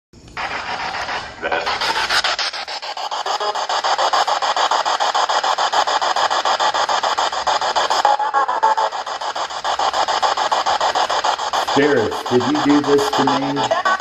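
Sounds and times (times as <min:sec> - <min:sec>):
pulsing hissing static: 0:00.4 - 0:14.0.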